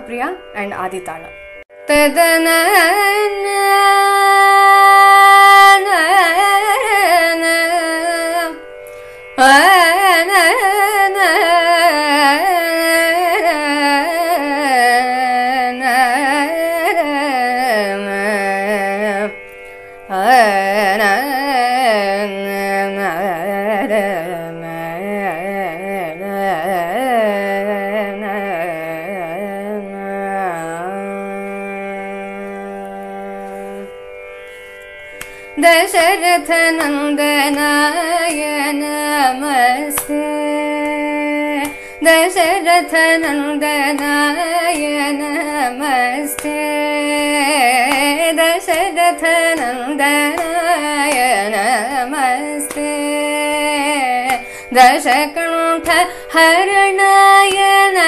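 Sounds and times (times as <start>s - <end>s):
woman singing ornamented melody: 1.9s - 19.4s, 20.1s - 34.0s, 35.6s - 58.0s.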